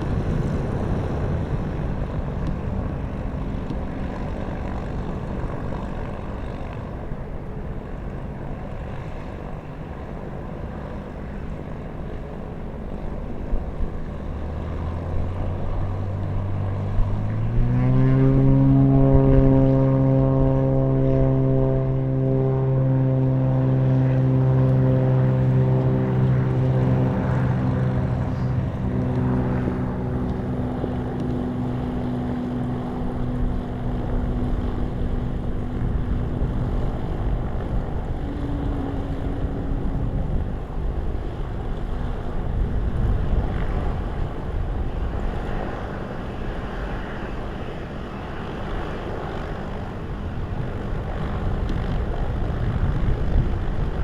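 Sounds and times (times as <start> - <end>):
wind noise on microphone: 0.0 - 7.0, 13.0 - 54.0
propeller aircraft engine: 0.0 - 54.0.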